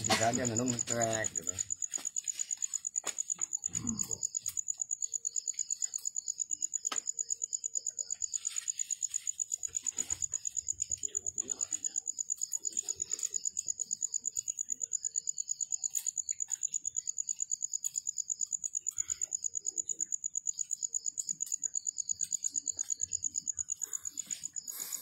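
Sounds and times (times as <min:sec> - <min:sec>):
cricket chirping: 0:00.0 - 0:25.0.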